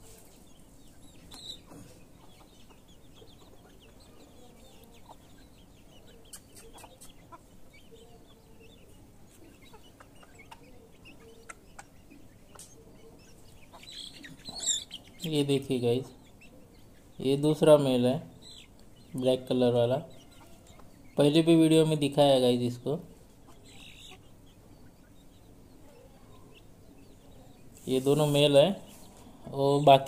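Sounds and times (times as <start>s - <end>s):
chicks peeping and hen clucking: 0.0s - 30.0s.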